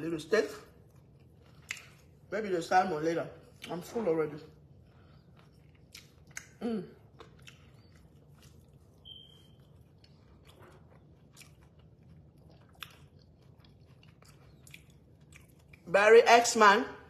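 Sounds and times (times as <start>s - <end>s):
person chewing: 0.6s - 2.3s, 3.4s - 15.9s.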